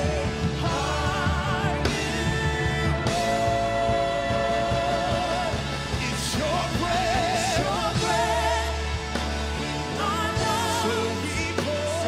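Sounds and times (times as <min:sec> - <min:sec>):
person singing with vibrato: 0:00.0 - 0:12.0
worship band playing: 0:00.0 - 0:12.0.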